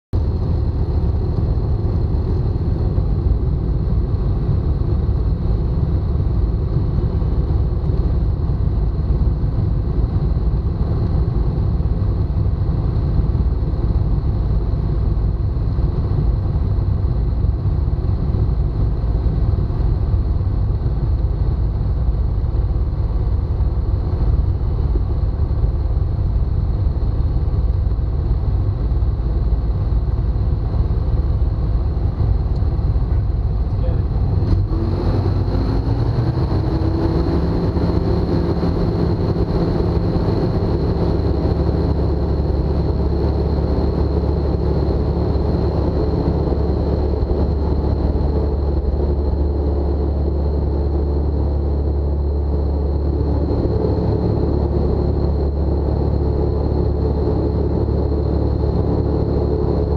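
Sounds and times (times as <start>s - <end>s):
aircraft engine and propeller rumble: 0.0s - 59.9s.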